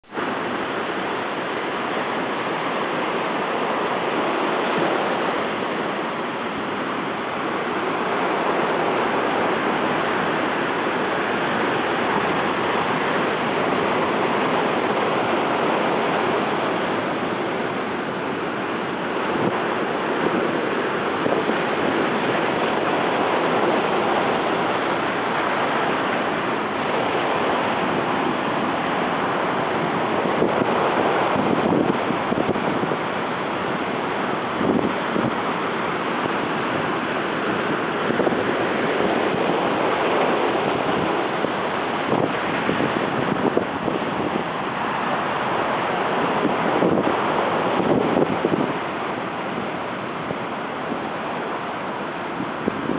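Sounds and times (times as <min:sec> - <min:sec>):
waves breaking against seawall: 0:00.0 - 0:52.9.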